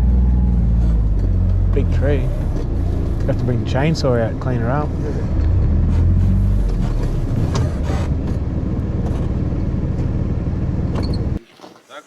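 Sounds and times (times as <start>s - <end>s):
buggy engine low drone: 0.0s - 11.4s.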